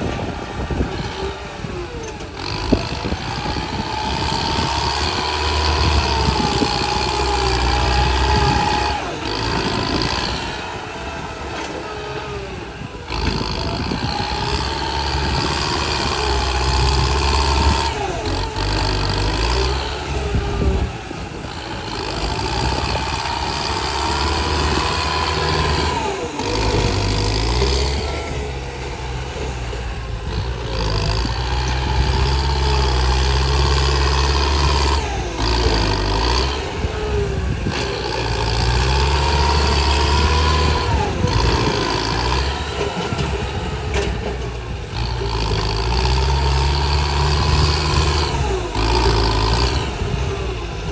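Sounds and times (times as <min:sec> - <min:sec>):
truck engine whining and rumbling: 0:00.0 - 0:50.9.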